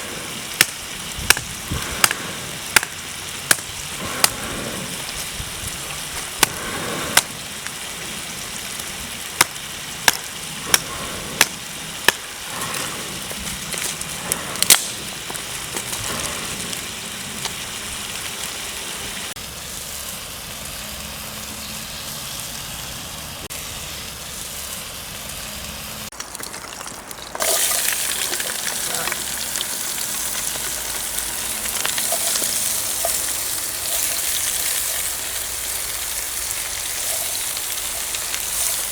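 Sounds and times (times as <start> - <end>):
food sizzling in a pan: 0.0 - 14.1, 14.7 - 38.9.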